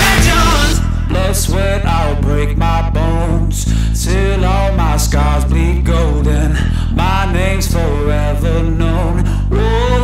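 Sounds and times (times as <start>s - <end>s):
song with sung melody and bass: 0.0s - 10.0s.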